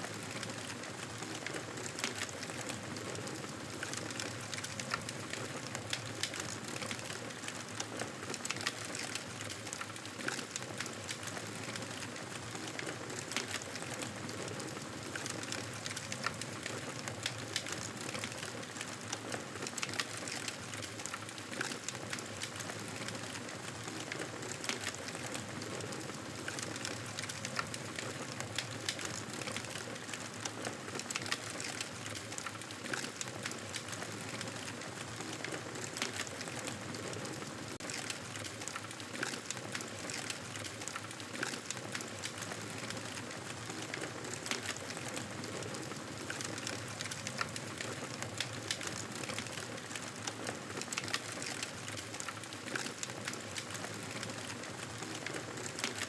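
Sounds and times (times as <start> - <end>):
campfire crackling and popping: 0.1 - 56.0.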